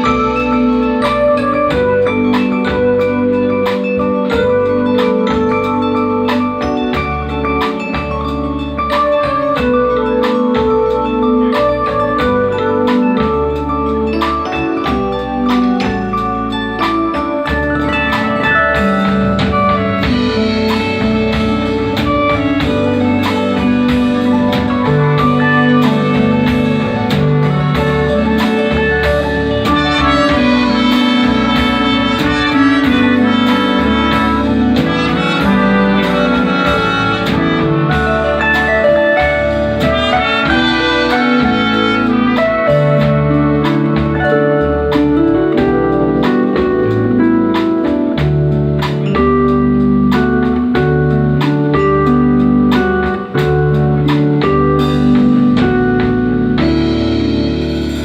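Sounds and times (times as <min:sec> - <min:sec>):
band music with steady beat: 0:00.0 - 0:58.0.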